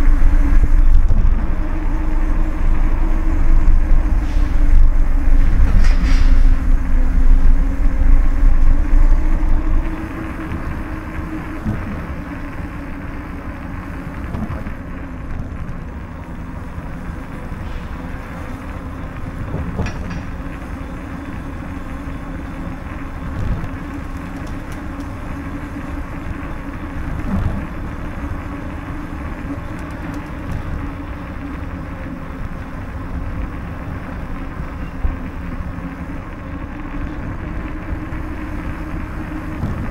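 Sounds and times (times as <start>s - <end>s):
bicycle rumbling over stone street: 0.0s - 39.9s.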